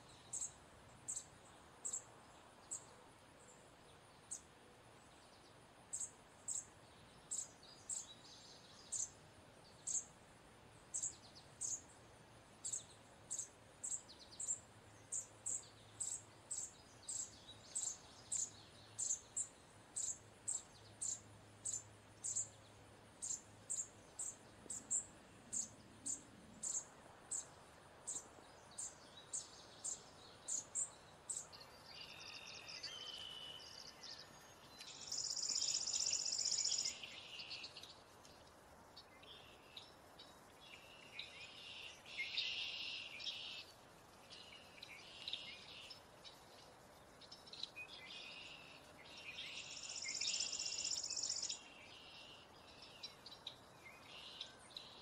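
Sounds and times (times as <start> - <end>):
sparrow chip calls: 0.0 - 2.1, 5.9 - 9.2, 9.8 - 10.1, 10.9 - 11.9, 12.6 - 22.6, 23.2 - 27.5, 28.1 - 38.0, 39.0 - 55.0
faint background rustle: 0.0 - 55.0.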